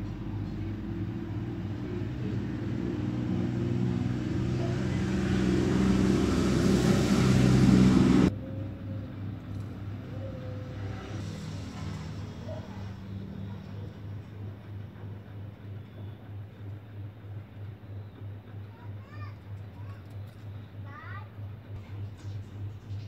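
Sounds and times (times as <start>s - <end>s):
low droning music: 0.0s - 23.0s.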